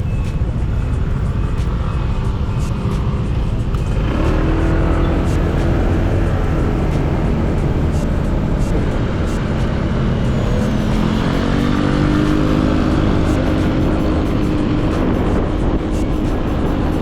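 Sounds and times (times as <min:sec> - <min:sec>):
motorcycle engine running: 0:00.0 - 0:17.0
road noise: 0:00.0 - 0:17.0
wind rumble: 0:00.0 - 0:17.0.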